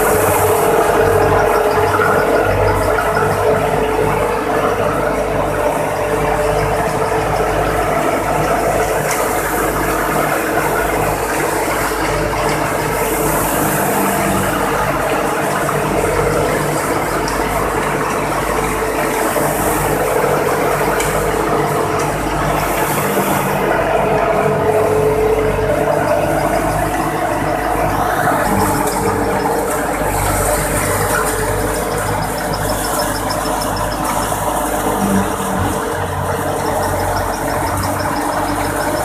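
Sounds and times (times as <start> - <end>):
thresher mechanical clatter: 0.0 - 39.0
tractor engine drone: 0.0 - 39.0.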